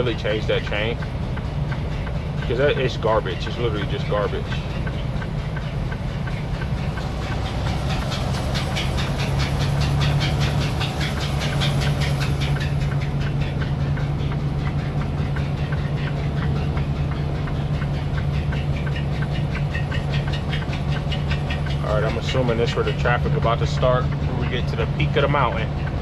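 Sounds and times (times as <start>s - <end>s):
diesel engine drone: 0.0s - 26.0s
tire chains clacking on road: 0.0s - 26.0s.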